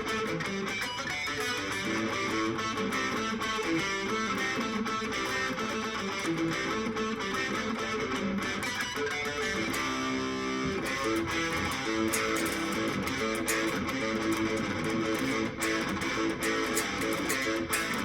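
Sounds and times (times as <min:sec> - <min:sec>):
overdriven electric guitar: 0:00.0 - 0:18.0.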